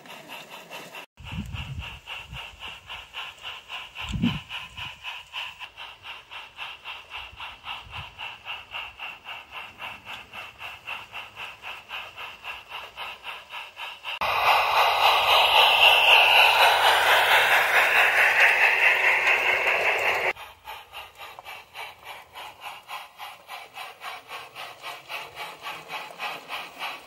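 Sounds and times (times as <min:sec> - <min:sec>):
model train rhythmic beat: 0:00.0 - 0:27.0.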